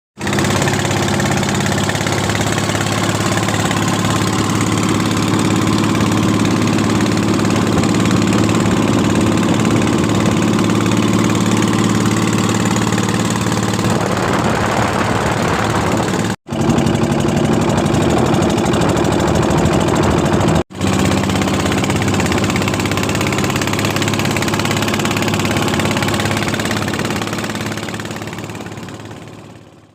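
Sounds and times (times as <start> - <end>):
boat engine running at speed: 0.2 - 29.9.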